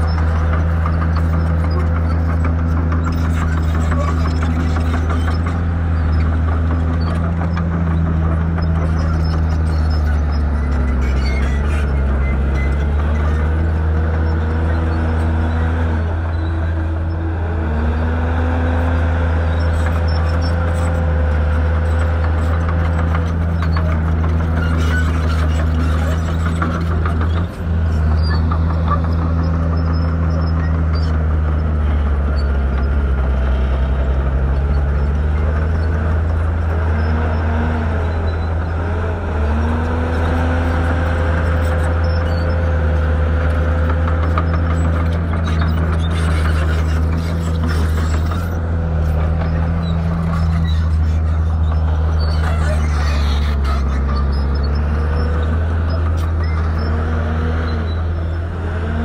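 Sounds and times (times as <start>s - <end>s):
heavy machinery diesel engine: 0.0s - 59.0s.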